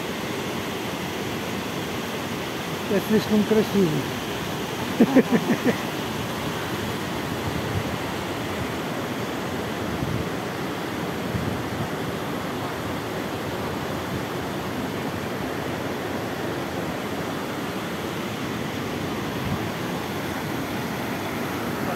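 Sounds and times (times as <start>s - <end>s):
river rushing over stones: 0.0s - 21.9s.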